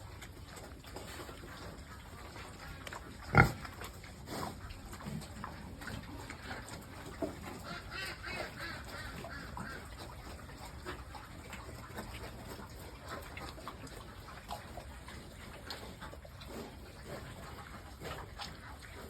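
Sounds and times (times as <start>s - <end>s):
pigs grunting and squealing: 0.0s - 19.0s.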